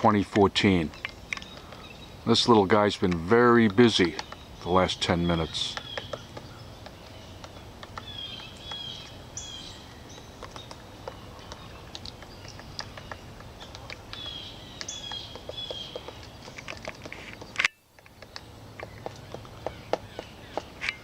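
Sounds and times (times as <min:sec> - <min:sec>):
outdoor background noise: 0:00.0 - 0:21.0
woodpecker tapping on wood: 0:00.0 - 0:21.0.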